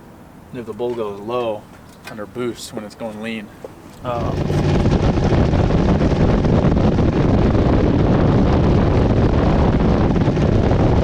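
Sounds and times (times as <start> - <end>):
rough engine and exhaust rumble: 0.0 - 11.0
wind buffeting microphone: 0.9 - 11.0.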